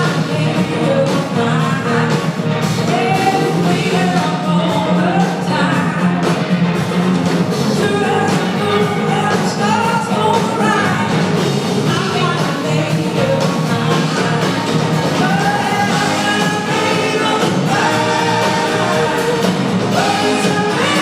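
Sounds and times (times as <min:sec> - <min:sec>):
person singing: 0:00.0 - 0:06.5, 0:07.7 - 0:21.0
blues-rock band playing live: 0:00.0 - 0:21.0.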